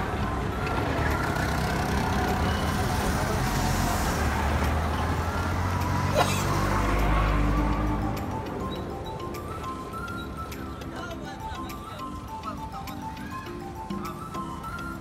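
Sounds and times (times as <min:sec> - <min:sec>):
vehicle engine humming: 0:00.0 - 0:13.1.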